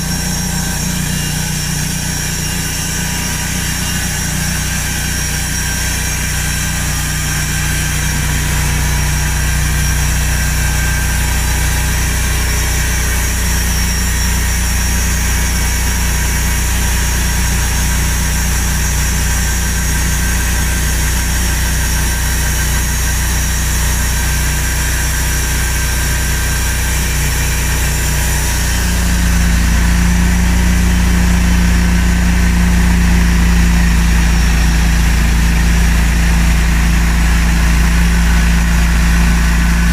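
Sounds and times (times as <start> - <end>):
sawmill mechanical drone: 0.0 - 39.9.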